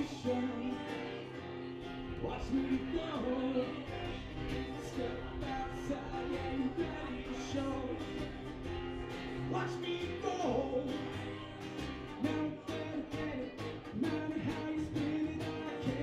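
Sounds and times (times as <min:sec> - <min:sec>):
acoustic guitar strumming: 0:00.0 - 0:16.0
person singing: 0:00.0 - 0:16.0
upright bass: 0:00.0 - 0:16.0.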